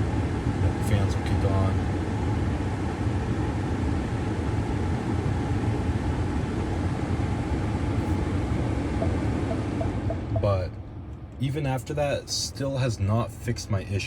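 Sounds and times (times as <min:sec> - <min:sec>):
low hum: 0:00.0 - 0:11.4
blower fan rushing air: 0:00.0 - 0:14.0.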